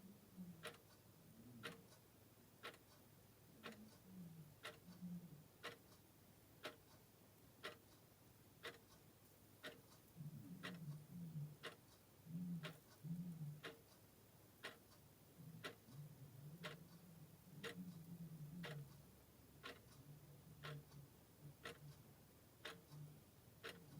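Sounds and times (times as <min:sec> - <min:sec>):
clock ticking softly: 0:00.0 - 0:23.9.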